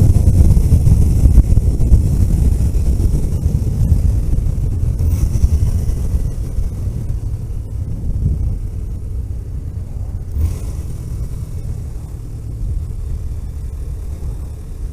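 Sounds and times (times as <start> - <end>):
vehicle driving on road: 0.0 - 14.9.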